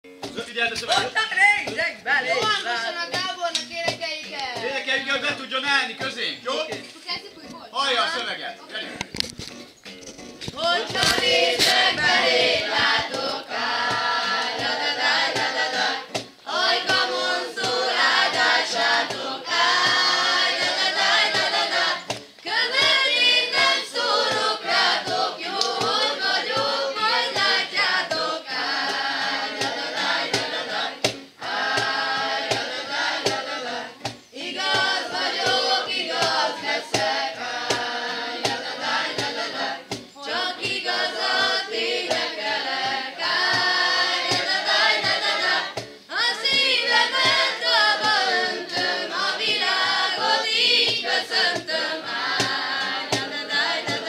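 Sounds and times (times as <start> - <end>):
acoustic guitar: 0.0 - 54.0
cajon beat: 0.1 - 54.0
group of people singing: 2.2 - 3.2, 10.5 - 54.0.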